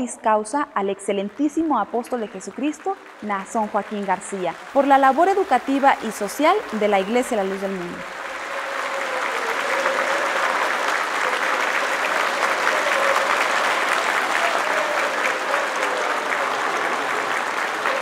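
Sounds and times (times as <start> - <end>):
audience applauding: 1.1 - 18.0.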